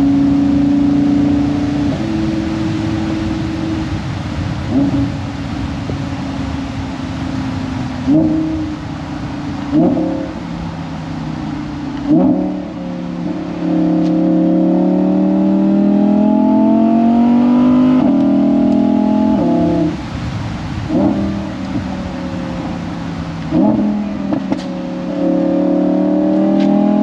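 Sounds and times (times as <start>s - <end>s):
sports car engine revving: 0.0s - 27.0s.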